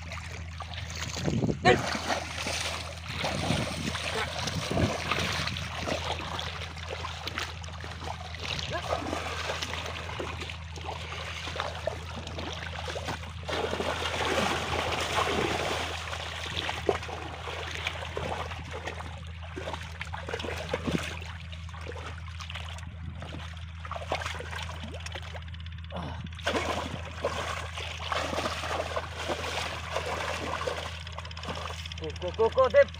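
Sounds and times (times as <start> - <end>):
muddy water splashing: 0.0 - 32.9
steady low hum: 0.0 - 32.9.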